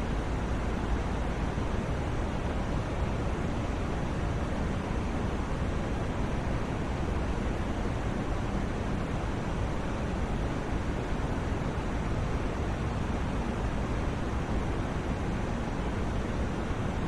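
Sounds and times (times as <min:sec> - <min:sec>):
steady white noise hiss: 0:00.0 - 0:17.0.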